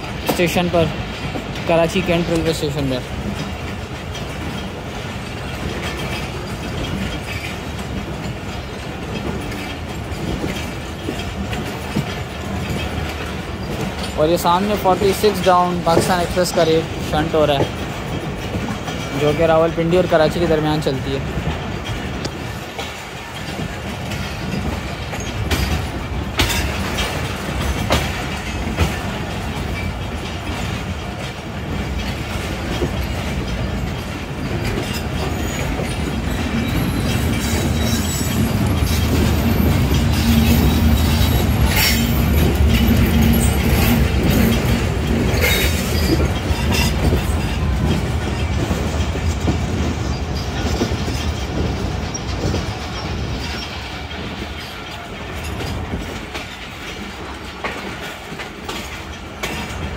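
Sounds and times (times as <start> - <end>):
clacks over rail joints: 0.0 - 59.9
train wheels rumbling on track: 0.0 - 59.9.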